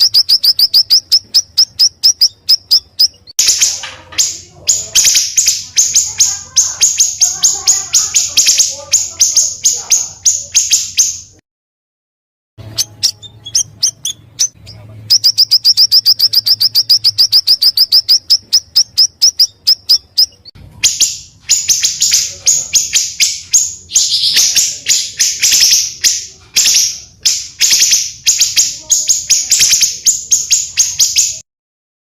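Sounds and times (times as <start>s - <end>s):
harsh rasping bird calls: 0.0s - 11.4s, 12.6s - 31.4s
songbirds singing high notes: 0.0s - 11.4s, 12.6s - 31.4s.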